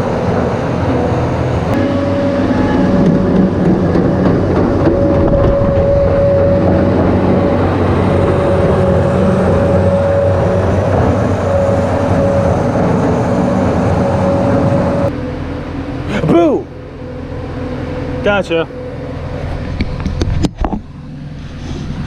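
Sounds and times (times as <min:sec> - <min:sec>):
farm machinery engine running: 0:00.0 - 0:22.0
steady whine: 0:00.0 - 0:22.0.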